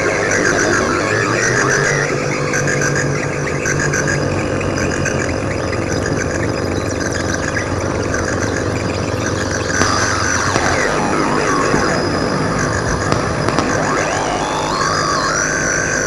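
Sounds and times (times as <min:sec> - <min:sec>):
rough noisy electronic texture: 0:00.0 - 0:16.0
synthesizer drone: 0:00.0 - 0:16.0.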